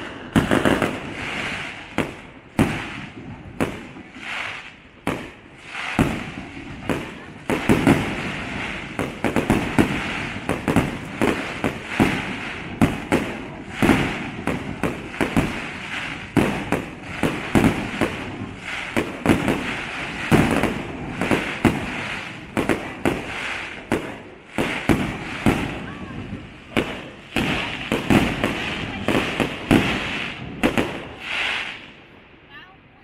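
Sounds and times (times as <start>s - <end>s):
fireworks bangs: 0.0s - 32.6s
continuous hiss: 0.0s - 33.0s.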